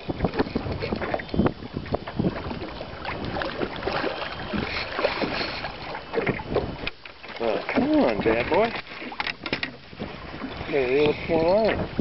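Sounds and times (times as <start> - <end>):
wind on microphone: 0.0 - 6.9, 7.8 - 12.0
water lapping against boat hull: 0.0 - 12.0.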